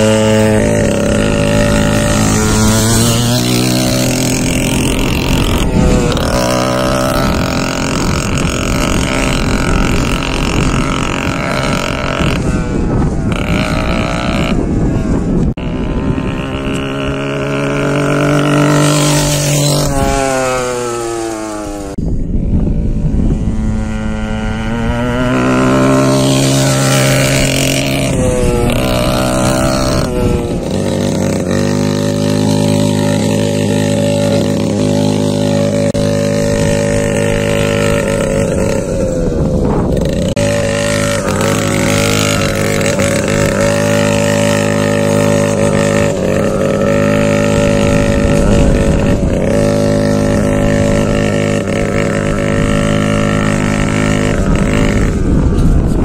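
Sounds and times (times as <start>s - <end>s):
small two-stroke engine: 0.0s - 56.0s.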